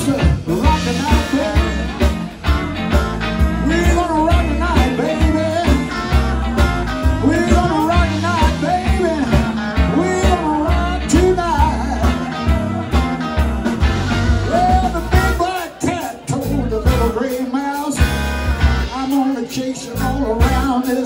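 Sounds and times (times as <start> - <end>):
electric bass: 0.0 - 19.2, 19.9 - 21.0
blues band playing: 0.0 - 21.0
drums with steady beat: 0.0 - 21.0
electric guitars: 0.0 - 21.0.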